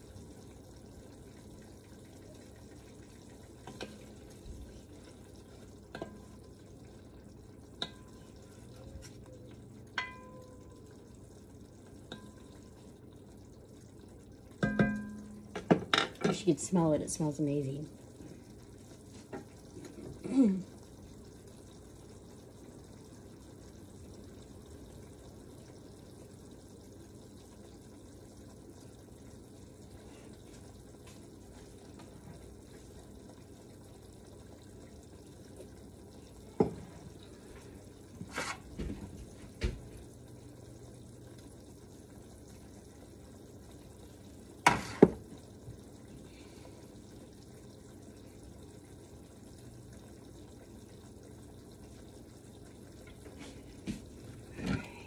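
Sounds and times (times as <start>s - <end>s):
sauce bubbling in pot: 0.0s - 55.0s.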